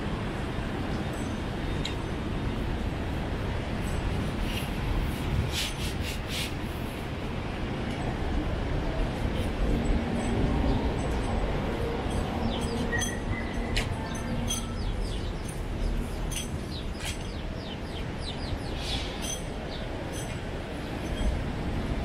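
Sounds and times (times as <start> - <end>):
low city rumble: 0.0 - 22.0.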